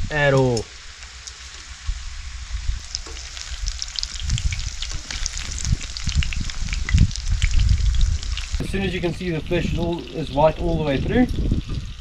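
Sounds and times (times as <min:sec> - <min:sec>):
low rumble: 0:00.0 - 0:12.0
fish frying in hot oil: 0:00.1 - 0:12.0.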